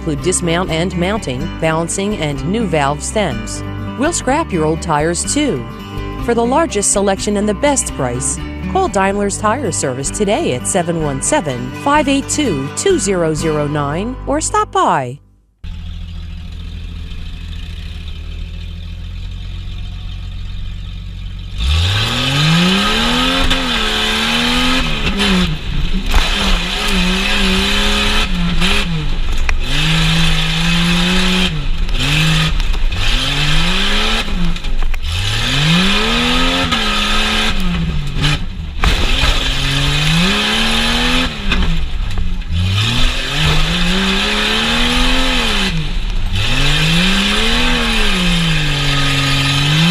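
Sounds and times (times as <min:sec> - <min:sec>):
truck engine idling and revving: 0:00.0 - 0:49.9.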